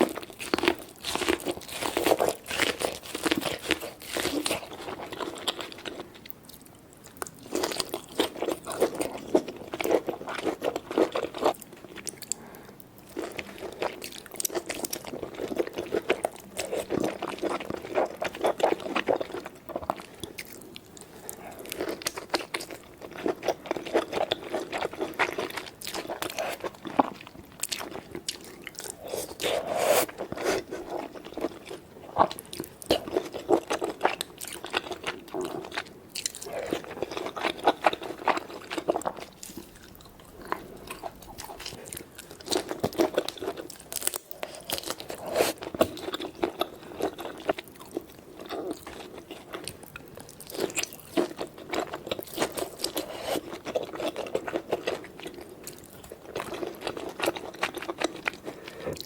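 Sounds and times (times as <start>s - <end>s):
crunching and wet chewing: 0.0s - 59.0s.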